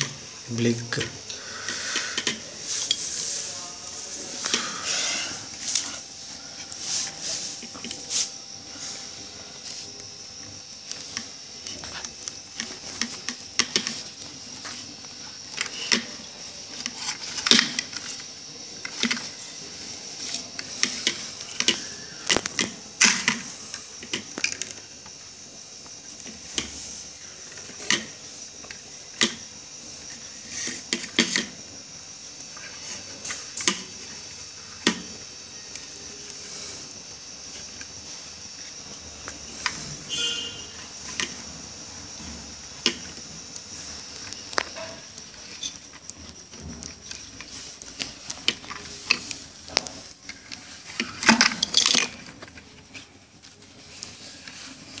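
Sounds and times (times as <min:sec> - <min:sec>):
steady high hiss: 0:00.0 - 0:55.0
wires clicking and scraping: 0:00.0 - 0:55.0.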